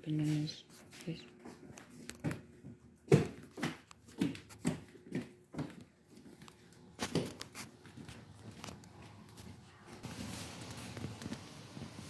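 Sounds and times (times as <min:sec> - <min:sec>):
footsteps on wooden floor: 0:00.3 - 0:12.0.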